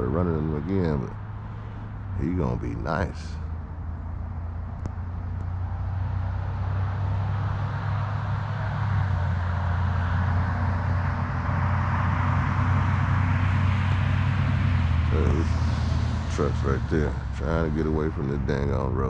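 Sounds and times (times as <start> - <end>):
road noise: 0.0 - 19.0
truck engine humming: 0.0 - 19.0.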